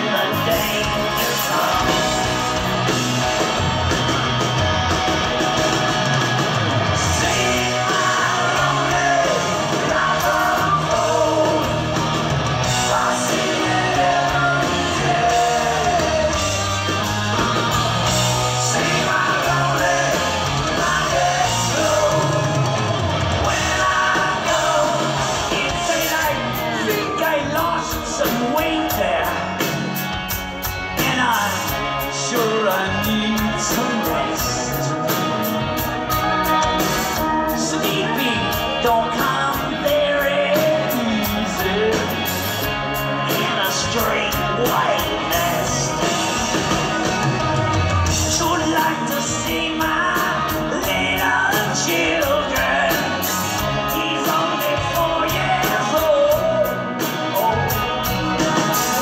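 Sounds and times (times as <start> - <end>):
man singing and shouting: 0.0 - 2.7, 7.0 - 16.9, 18.1 - 29.6, 30.9 - 35.6, 37.1 - 47.4, 48.0 - 59.0
live rock band playing: 0.0 - 59.0.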